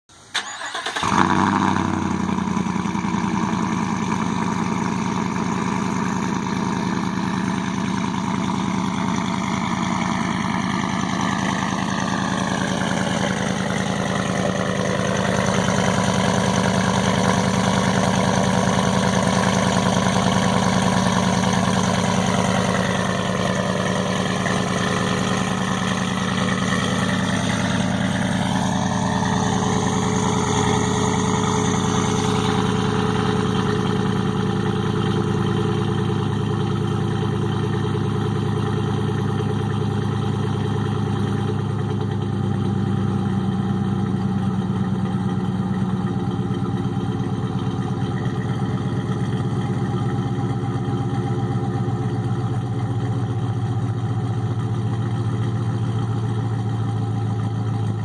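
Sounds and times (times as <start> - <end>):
truck engine idling: 0.1 - 58.0.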